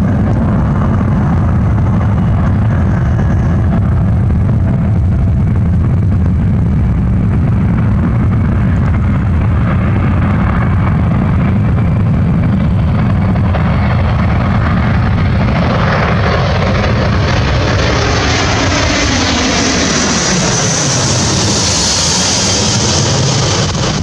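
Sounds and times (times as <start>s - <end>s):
jet aircraft engines rumbling: 0.0s - 24.0s.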